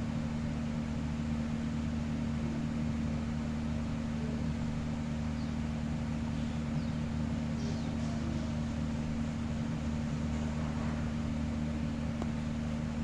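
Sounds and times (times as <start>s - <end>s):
machine hum with hiss: 0.0s - 13.0s.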